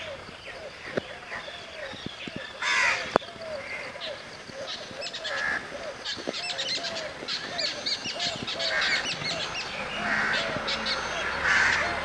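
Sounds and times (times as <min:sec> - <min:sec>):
birds harsh calls: 0:00.0 - 0:12.0
high bird chirps: 0:00.0 - 0:12.0.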